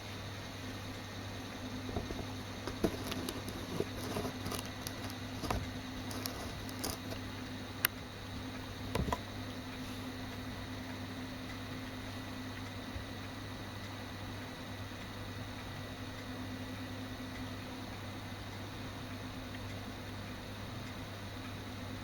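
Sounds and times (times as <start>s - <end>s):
video deck humming: 0.0s - 22.0s
irregular clicks and ticks: 1.9s - 21.6s.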